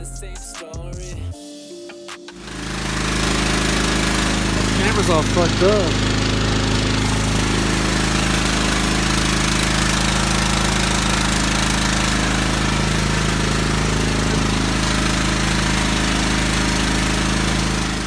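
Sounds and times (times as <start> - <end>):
motor droning: 2.4 - 18.0.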